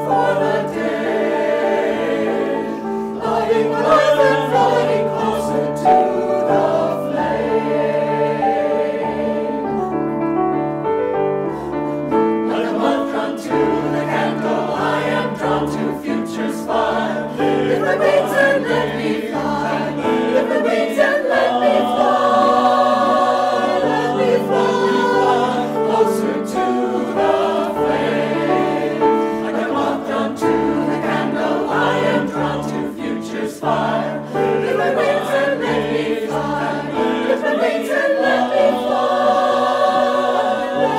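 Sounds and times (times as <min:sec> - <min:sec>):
mixed choir singing in harmony: 0:00.0 - 0:40.9
piano accompaniment: 0:00.0 - 0:40.9.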